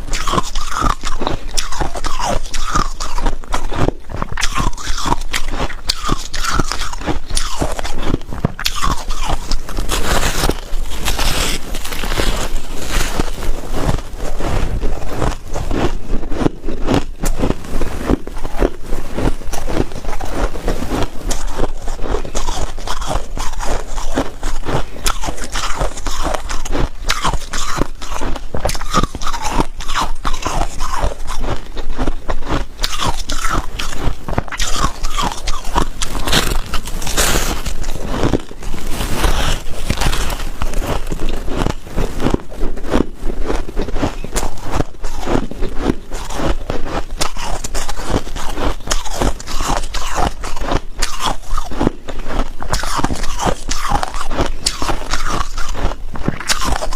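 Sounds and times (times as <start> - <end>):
ice cubes crunching when chewed: 0.0 - 56.9.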